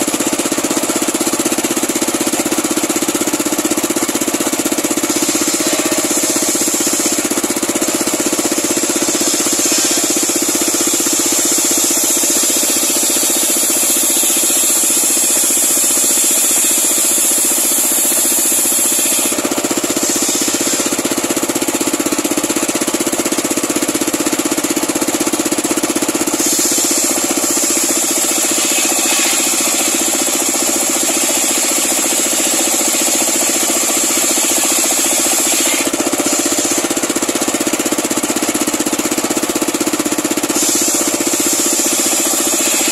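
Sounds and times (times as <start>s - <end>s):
saw blade cutting log: 0.0s - 42.9s
sawmill engine drone: 0.0s - 42.9s.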